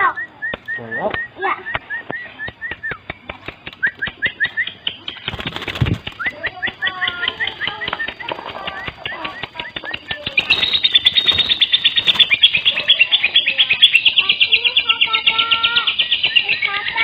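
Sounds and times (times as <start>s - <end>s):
bird chirping and trilling: 0.0s - 17.0s.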